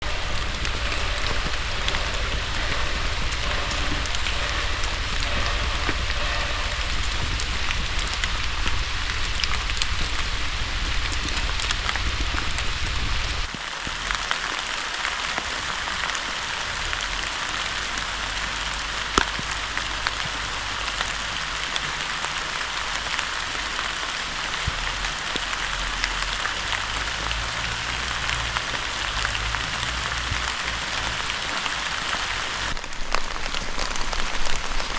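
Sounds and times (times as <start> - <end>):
low rumble: 0.0 - 34.4
steady rain falling: 0.0 - 34.9.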